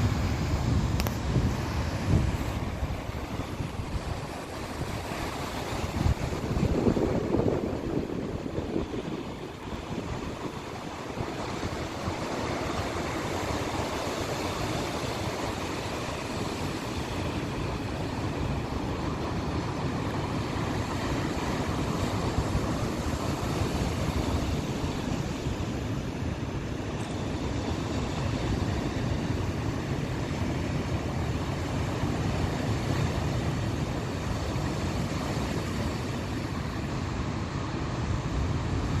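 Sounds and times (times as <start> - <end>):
ocean surf breaking: 0.0 - 39.0
wind buffeting microphone: 0.0 - 39.0.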